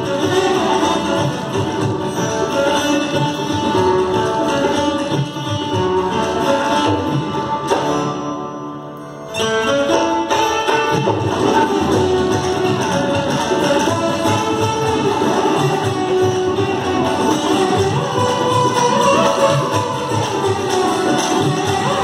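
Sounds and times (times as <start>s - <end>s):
hand drums: 0.0s - 8.2s, 9.7s - 22.0s
plucked and slid strings: 0.0s - 22.0s.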